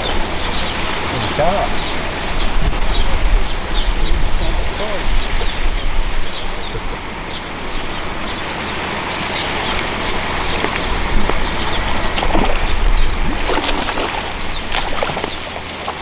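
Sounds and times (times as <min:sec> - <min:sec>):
water splashing and gurgling: 0:00.0 - 0:06.6, 0:07.5 - 0:16.0
wind rumble on microphone: 0:00.0 - 0:15.7.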